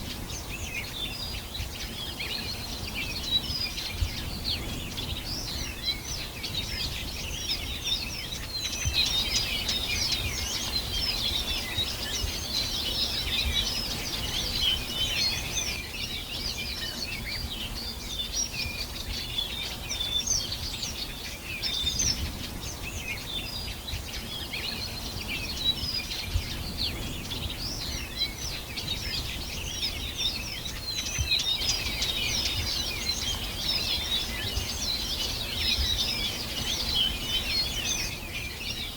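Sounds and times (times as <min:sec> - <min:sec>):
birds chirping in chorus: 0:00.0 - 0:38.9.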